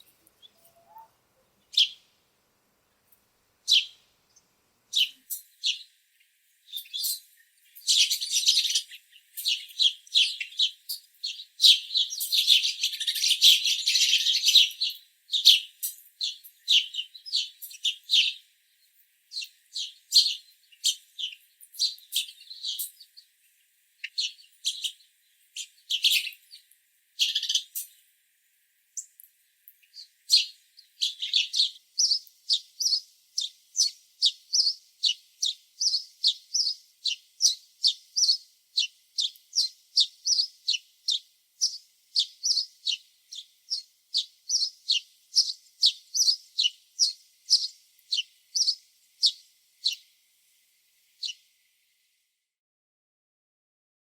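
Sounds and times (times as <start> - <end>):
sparrows chirping: 0.0 - 2.1, 3.6 - 28.0, 29.0 - 50.1, 51.2 - 51.4.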